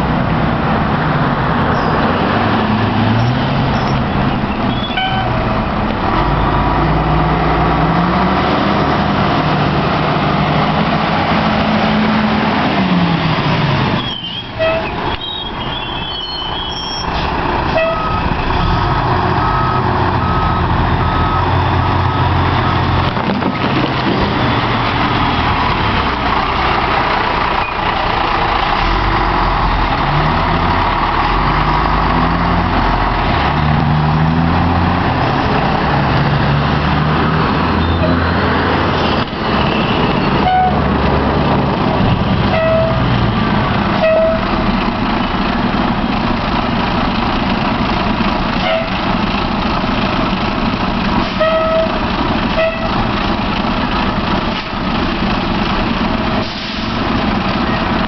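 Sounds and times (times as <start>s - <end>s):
fire engine running: 0.0s - 58.0s.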